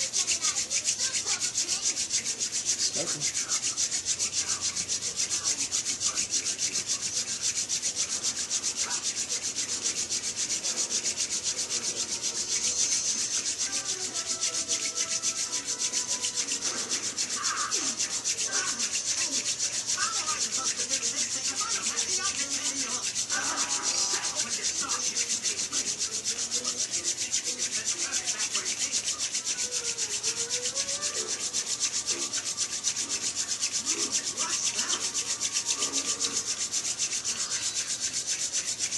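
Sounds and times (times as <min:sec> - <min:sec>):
wooden spindle rasping on wood: 0:00.0 - 0:38.9.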